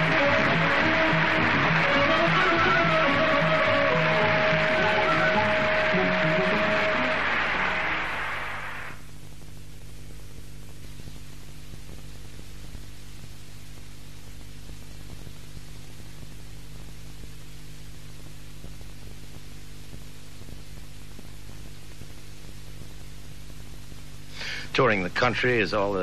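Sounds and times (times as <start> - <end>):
mains hum: 0.0 - 26.0
tape hiss: 0.0 - 26.0.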